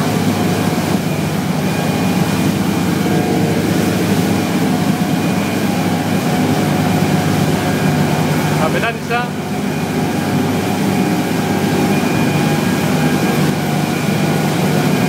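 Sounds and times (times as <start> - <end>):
boat engine drone: 0.0 - 15.0
rush of wind and water: 0.0 - 15.0.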